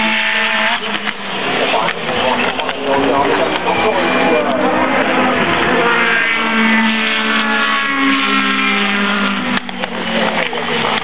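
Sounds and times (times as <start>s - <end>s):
racing car passing at speed: 0.0s - 11.0s.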